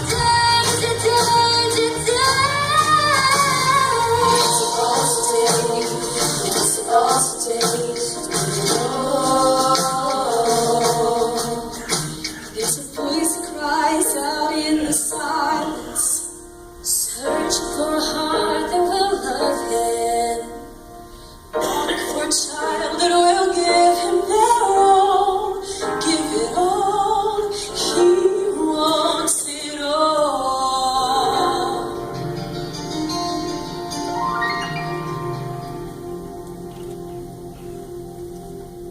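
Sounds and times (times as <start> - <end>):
instrumental backing music: 0.0 - 38.9.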